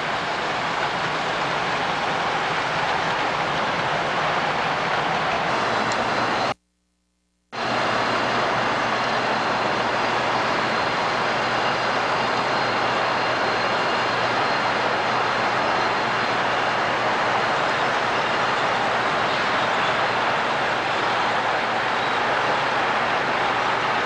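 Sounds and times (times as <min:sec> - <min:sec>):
model train rolling on track: 0:00.0 - 0:06.5, 0:07.6 - 0:24.0.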